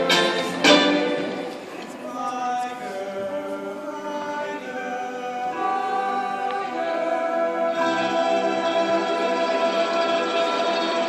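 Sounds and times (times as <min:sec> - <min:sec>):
choir singing in harmony: 0:00.0 - 0:01.6, 0:02.5 - 0:11.0.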